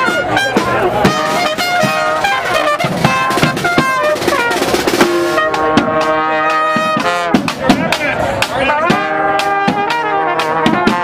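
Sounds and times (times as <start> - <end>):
bass drum and snare drum: 0.0 - 11.0
trumpets and trombone: 0.0 - 11.0.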